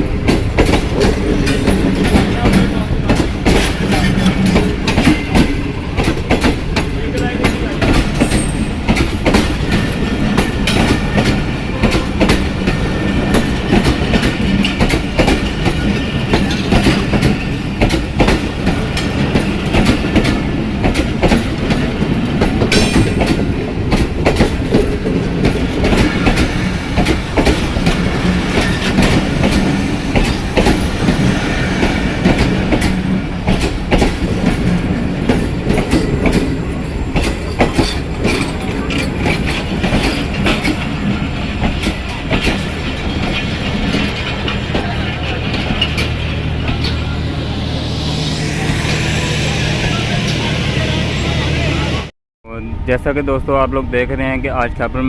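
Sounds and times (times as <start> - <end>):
train wheels clattering over rail joints: 0.2 - 47.0.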